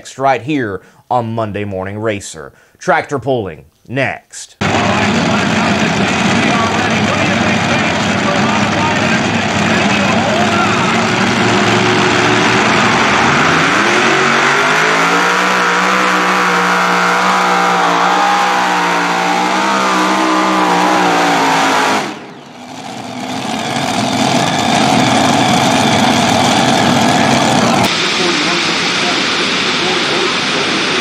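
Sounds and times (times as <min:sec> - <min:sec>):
pulling tractor engines roaring: 0:04.6 - 0:31.0.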